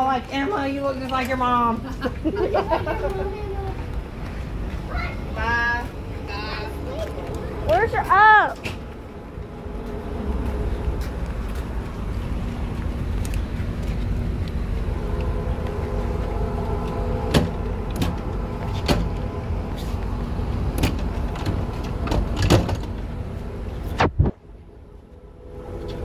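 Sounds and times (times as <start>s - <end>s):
low rumble with hum: 0.0s - 26.0s.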